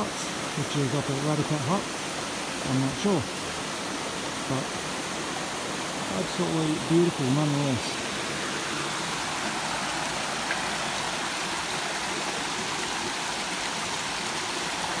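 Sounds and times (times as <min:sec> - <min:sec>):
creek rushing over boulders: 0:00.0 - 0:15.0.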